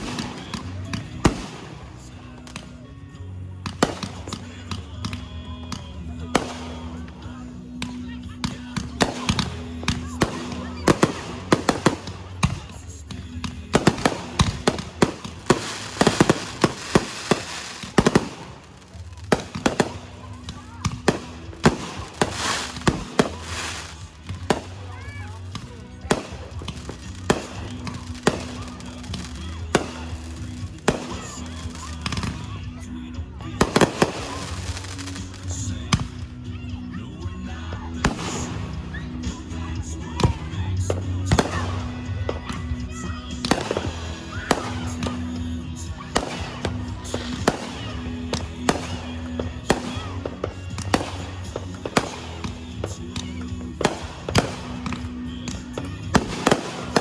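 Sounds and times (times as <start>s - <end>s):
background music: 0.0s - 57.0s
fireworks bangs: 0.0s - 57.0s.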